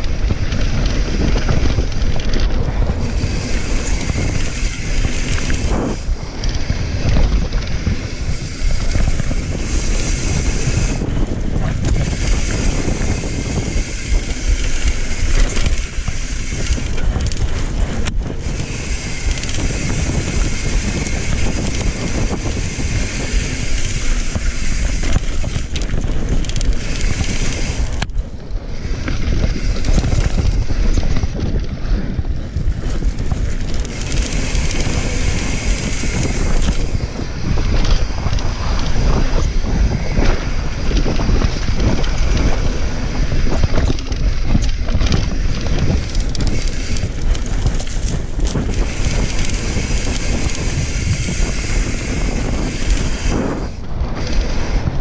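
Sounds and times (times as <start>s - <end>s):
bike rattling: 0.0s - 55.0s
tyres rumbling on dirt: 0.0s - 55.0s
wind buffeting microphone: 0.0s - 55.0s.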